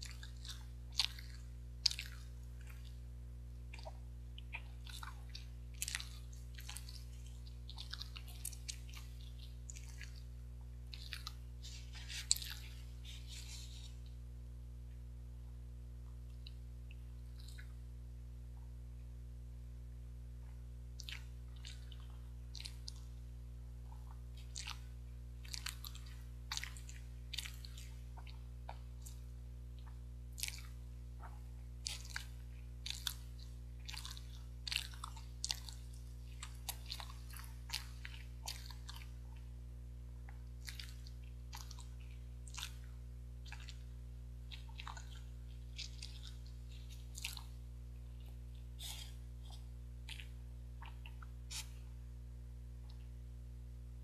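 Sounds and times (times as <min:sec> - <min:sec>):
person chewing soft food: 0:00.0 - 0:14.4, 0:15.4 - 0:19.1, 0:20.0 - 0:54.0
steady low hum: 0:00.0 - 0:54.0.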